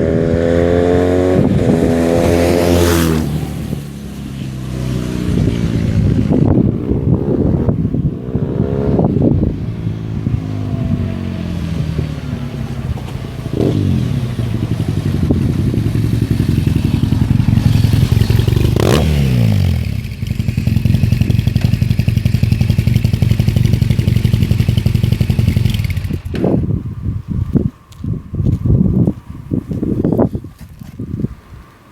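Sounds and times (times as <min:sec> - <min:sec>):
motorcycle engine revving and idling: 0:00.0 - 0:27.2.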